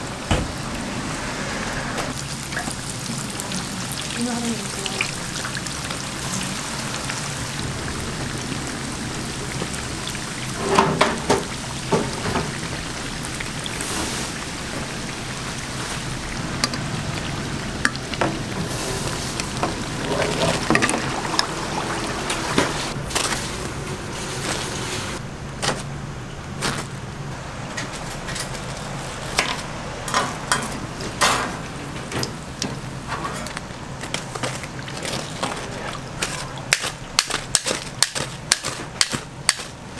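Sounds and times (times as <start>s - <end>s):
oil sizzling deep-frying: 0.0s - 39.9s.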